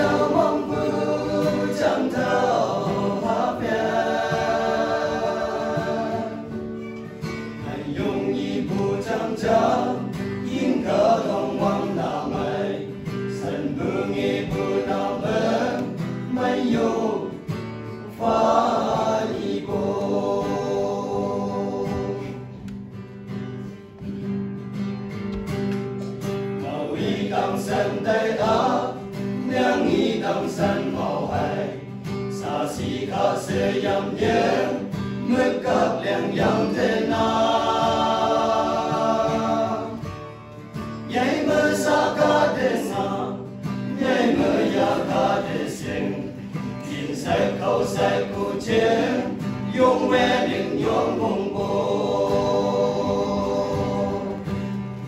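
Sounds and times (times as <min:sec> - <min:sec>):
men's choir singing gospel: 0:00.0 - 0:22.7, 0:26.4 - 0:55.0
guitar accompaniment: 0:00.0 - 0:55.0.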